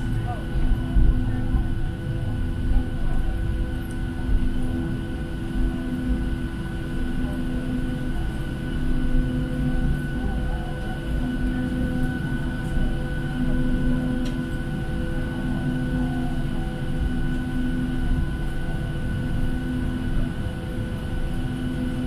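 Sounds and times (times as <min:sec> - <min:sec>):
high engine whine: 0:00.0 - 0:22.0
low cabin rumble: 0:00.0 - 0:22.0
low hum: 0:00.0 - 0:22.0.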